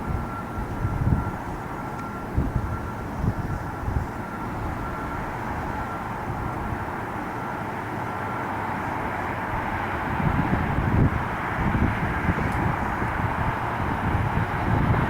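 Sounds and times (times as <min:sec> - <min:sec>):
distant aircraft rumble: 0:00.0 - 0:15.0.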